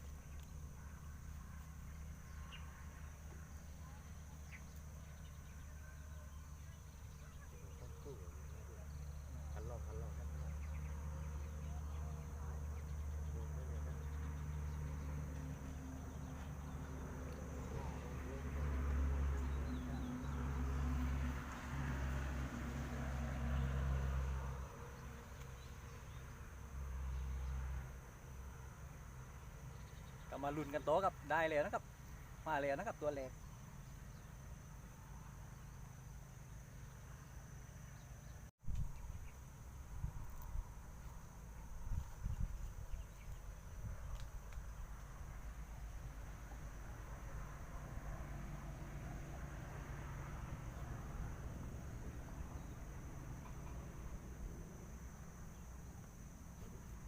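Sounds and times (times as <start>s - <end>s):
high insect tone: 0.0s - 57.0s.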